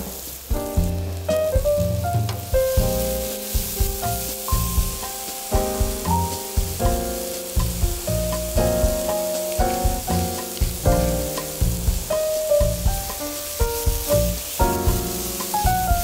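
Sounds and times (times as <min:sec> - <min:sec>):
mushrooms sizzling in a pan: 0:00.0 - 0:16.0
music of held notes: 0:00.8 - 0:16.0.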